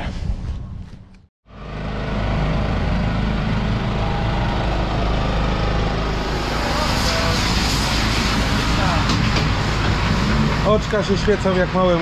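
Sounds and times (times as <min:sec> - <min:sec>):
road or wind noise: 0:00.0 - 0:12.0
motor vehicle engine hum: 0:00.7 - 0:12.0.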